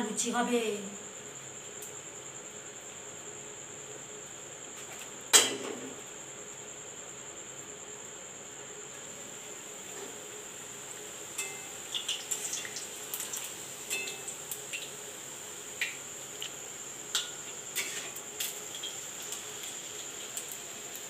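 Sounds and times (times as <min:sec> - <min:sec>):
bread deep-frying in oil: 0:01.2 - 0:21.0.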